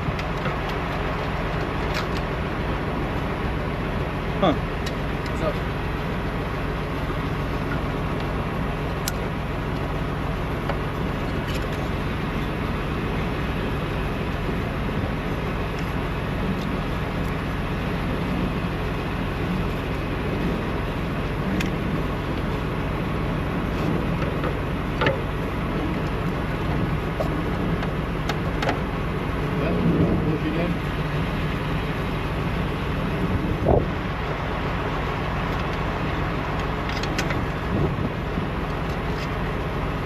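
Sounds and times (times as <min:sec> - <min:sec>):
low mechanical engine rumble: 0:00.0 - 0:40.0.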